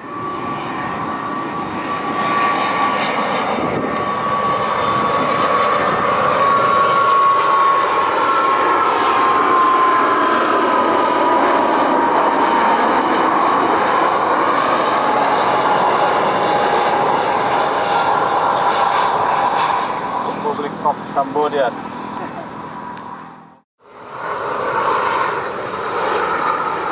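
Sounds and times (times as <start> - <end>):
jet engine roar with whine: 0.0 - 26.9.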